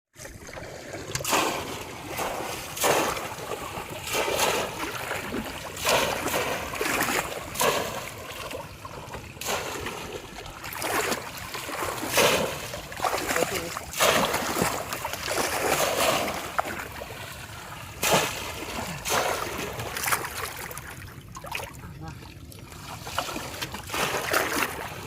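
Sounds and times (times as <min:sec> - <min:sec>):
splashes in shallow water: 0:00.2 - 0:25.0.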